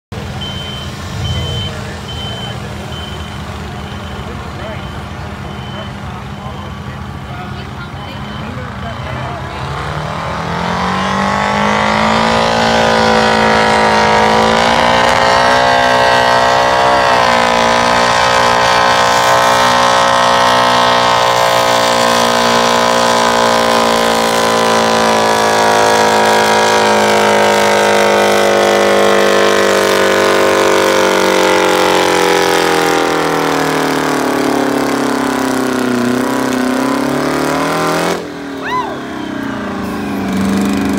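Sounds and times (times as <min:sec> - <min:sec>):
diesel tractor engine under load: 0:00.0 - 0:40.9.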